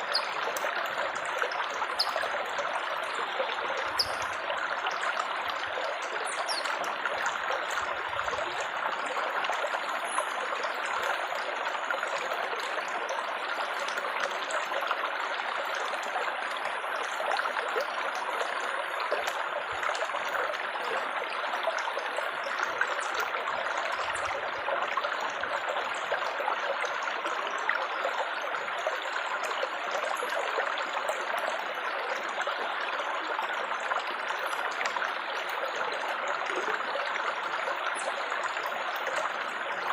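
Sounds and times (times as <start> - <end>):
water babbling over stones: 0.0 - 39.9.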